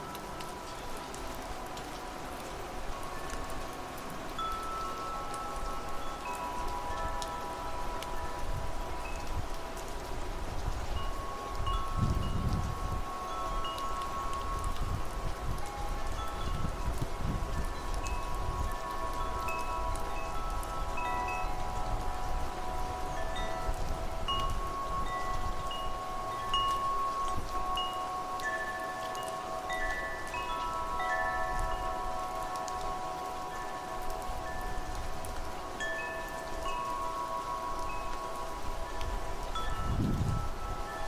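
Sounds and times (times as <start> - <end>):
rain: 0.0 - 41.0
wind: 0.0 - 41.0
wind chimes ringing: 0.0 - 41.0.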